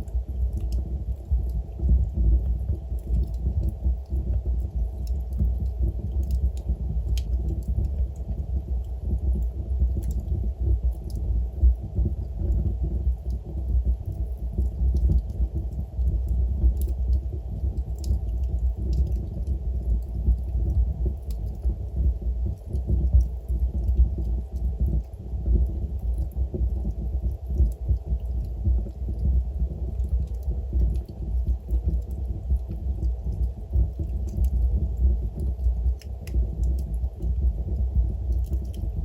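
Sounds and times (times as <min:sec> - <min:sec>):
fire rumbling in fireplace: 0:00.0 - 0:39.0.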